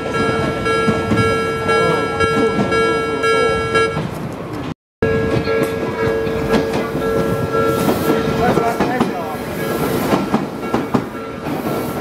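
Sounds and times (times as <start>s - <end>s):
level crossing warning bell: 0.0s - 4.2s, 5.0s - 12.0s
train running over rails: 0.0s - 12.0s.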